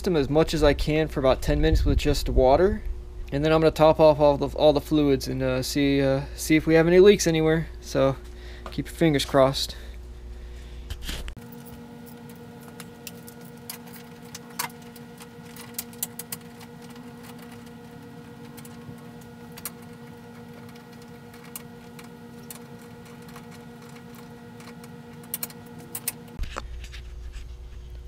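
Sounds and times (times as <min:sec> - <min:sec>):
steady tonal hum: 0:00.0 - 0:28.0.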